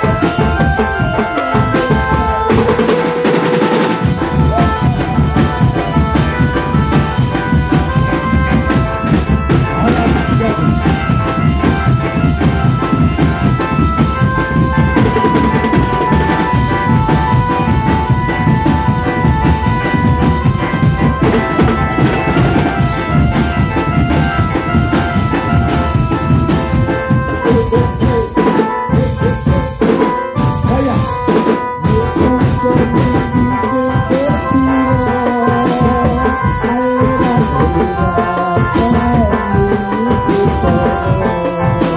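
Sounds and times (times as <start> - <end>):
melody of held notes: 0.0 - 41.9
snare and bass drums: 0.0 - 41.9.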